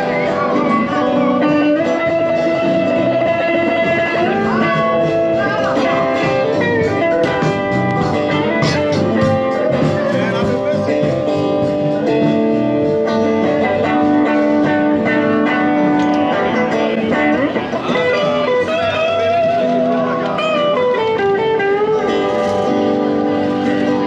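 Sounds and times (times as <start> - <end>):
electric guitar blues melody: 0.0 - 24.0.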